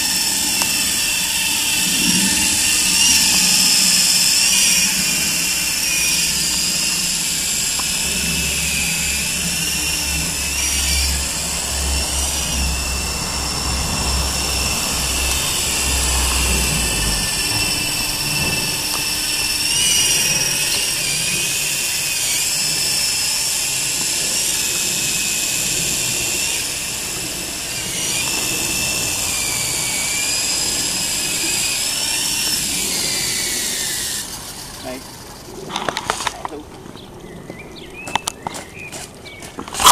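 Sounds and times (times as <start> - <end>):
electric motors whining: 0.0 - 39.9
helicopter rotors buzzing: 0.0 - 39.9.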